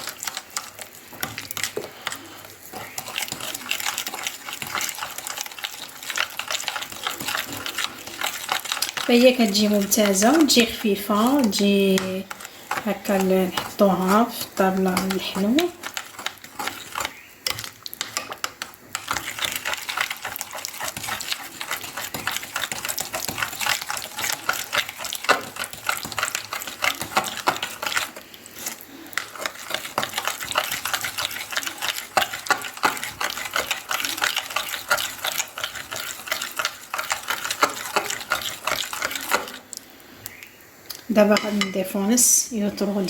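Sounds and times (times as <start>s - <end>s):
whisk beating batter in bowl: 0.0s - 39.6s.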